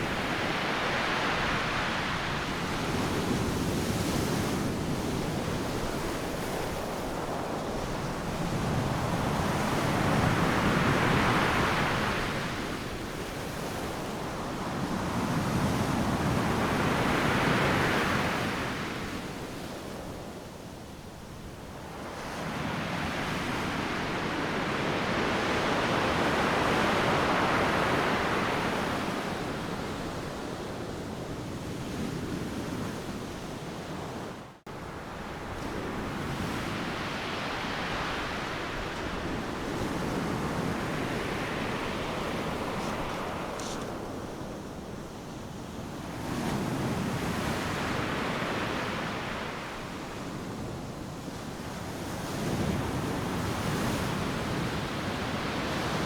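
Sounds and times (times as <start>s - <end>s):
ocean surf washing on a beach: 0.0s - 56.0s.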